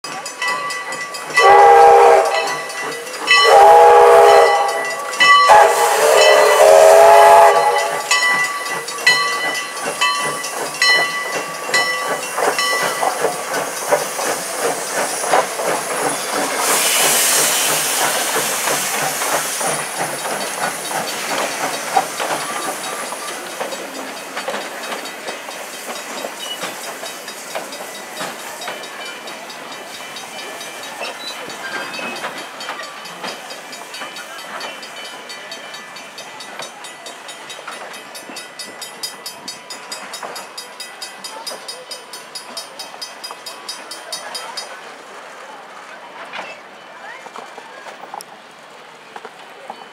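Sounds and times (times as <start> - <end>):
wheels clattering on rail: 0.0 - 49.9
steam locomotive chime whistle: 0.1 - 44.7
steam hiss: 0.1 - 45.4.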